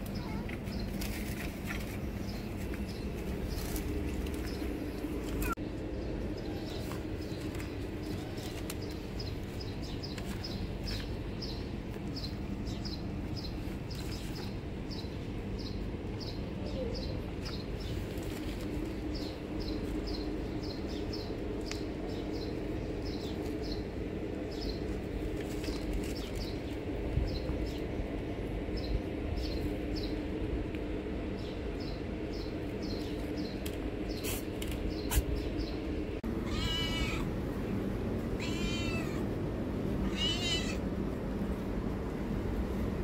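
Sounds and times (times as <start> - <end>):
small birds chirping: 0.0 - 43.0
steady low hum: 0.0 - 43.0.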